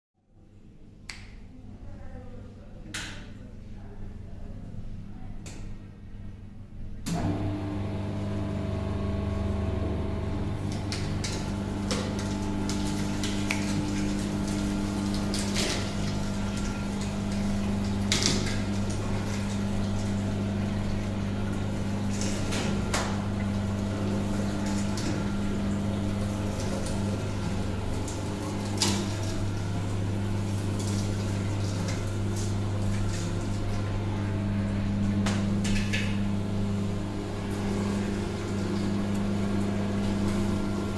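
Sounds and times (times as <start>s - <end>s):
juice machine motor humming: 6.9s - 40.9s.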